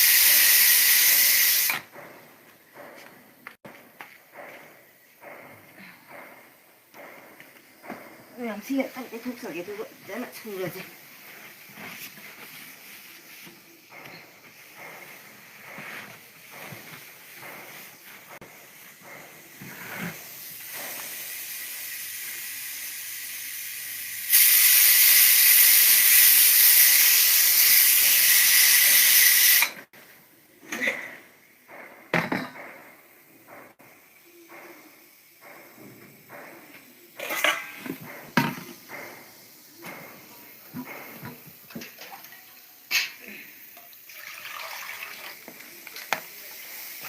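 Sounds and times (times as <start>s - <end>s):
loud steady hiss: 0.0s - 2.0s, 4.8s - 44.3s, 45.3s - 47.0s.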